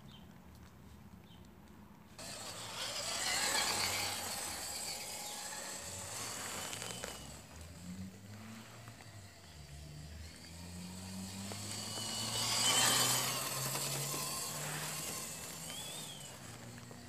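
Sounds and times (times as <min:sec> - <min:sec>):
toy truck motor whining: 0:02.2 - 0:17.0.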